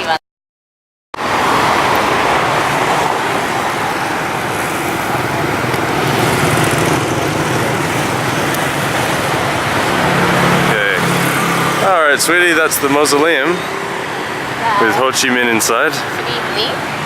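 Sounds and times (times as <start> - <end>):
low engine hum: 1.2 - 17.0
road traffic noise: 1.2 - 17.0.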